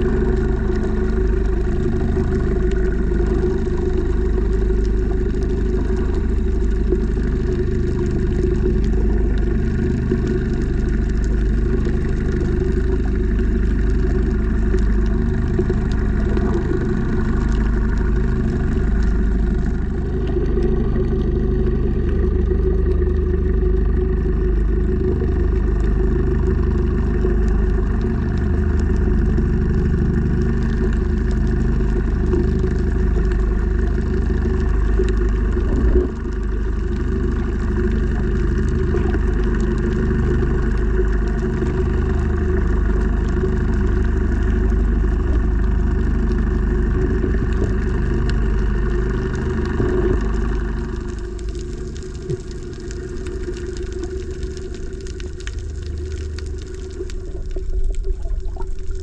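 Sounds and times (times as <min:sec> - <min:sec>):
engine hum underwater: 0:00.0 - 0:59.0.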